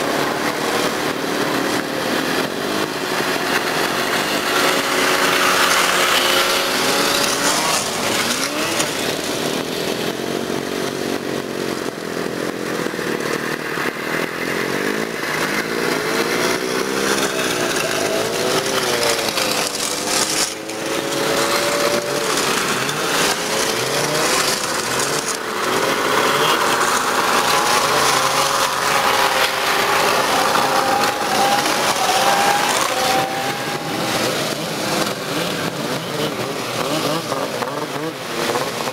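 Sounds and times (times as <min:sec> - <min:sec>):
snowmobile engines passing: 0:00.0 - 0:38.9.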